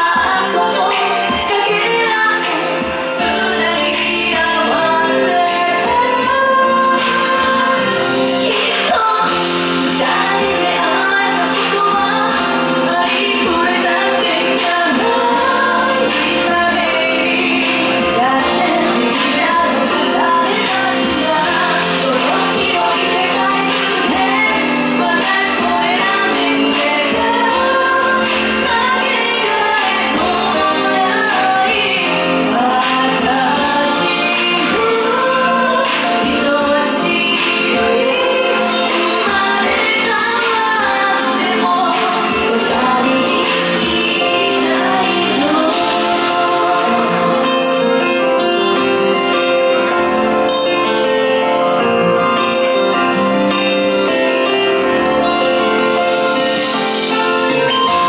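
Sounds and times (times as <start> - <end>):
woman singing slow song: 0.0 - 49.8
instrumental accompaniment: 0.0 - 58.0
keyboard chords: 0.0 - 58.0.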